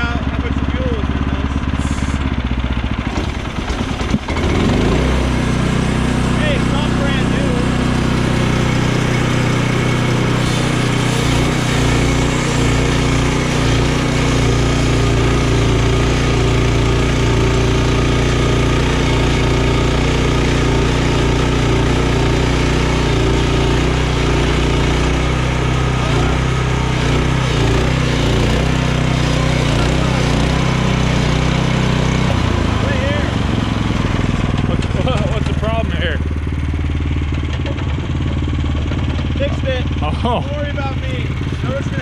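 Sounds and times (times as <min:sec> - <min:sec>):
sawmill gasoline engine running: 0:00.0 - 0:42.0
band saw blade cutting log: 0:00.6 - 0:36.0.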